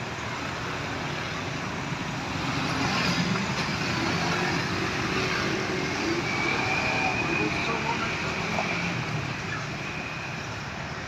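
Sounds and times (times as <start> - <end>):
passing vehicle engine and tyres: 0.0 - 11.0.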